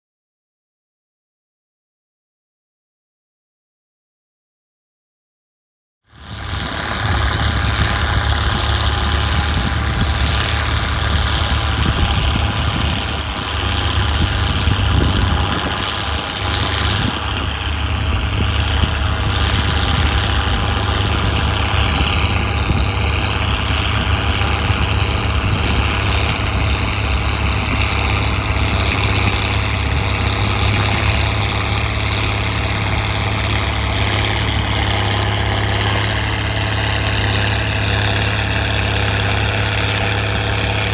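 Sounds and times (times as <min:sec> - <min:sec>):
tractor diesel engine running: 0:06.1 - 0:40.9.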